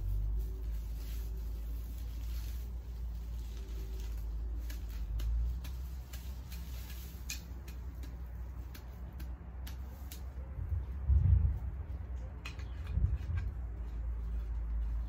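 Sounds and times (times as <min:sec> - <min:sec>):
grass stalks rustling and snapping: 0:00.0 - 0:15.0
steady low rumble: 0:00.0 - 0:15.0.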